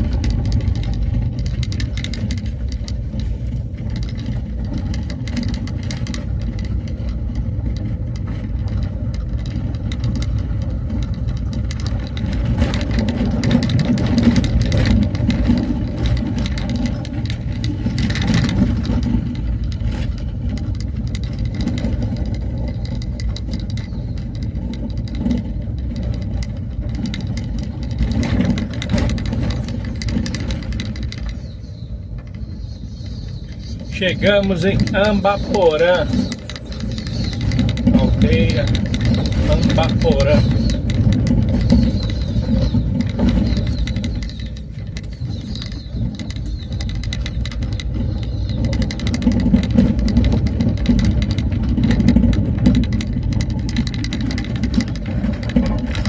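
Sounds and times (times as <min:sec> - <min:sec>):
vehicle body rattling: 0:00.0 - 0:56.0
vehicle engine rumble: 0:00.0 - 0:56.0.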